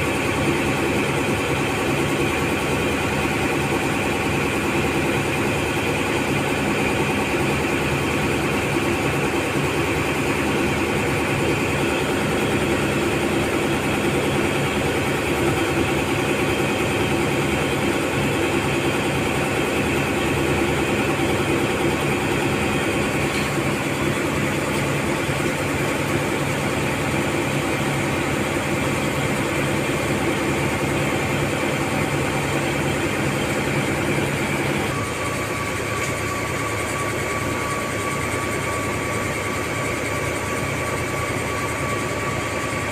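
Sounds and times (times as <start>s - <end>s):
ship engine droning: 0.0s - 42.9s
thin steady whine: 0.0s - 42.9s.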